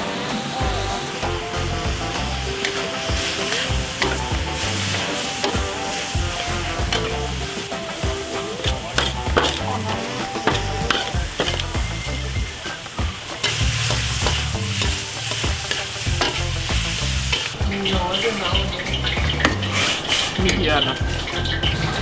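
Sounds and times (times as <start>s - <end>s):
metal spatula scraping a wok: 0.0s - 22.0s
oil sizzling in a wok: 0.0s - 22.0s.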